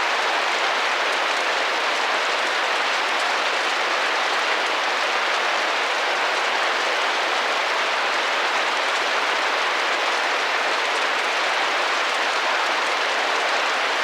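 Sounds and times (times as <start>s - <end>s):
rain on a window pane: 0.0s - 14.0s.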